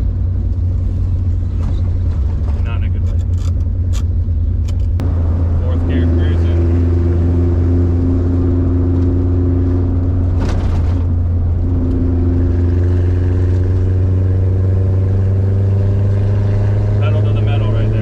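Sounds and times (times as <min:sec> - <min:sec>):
truck engine humming: 0:00.0 - 0:15.5.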